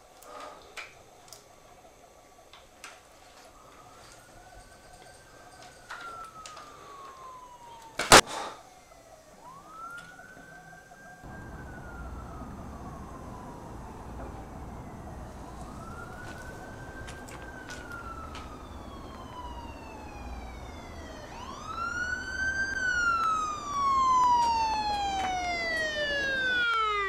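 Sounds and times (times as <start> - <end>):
emergency vehicle siren wailing: 1.8 - 27.0.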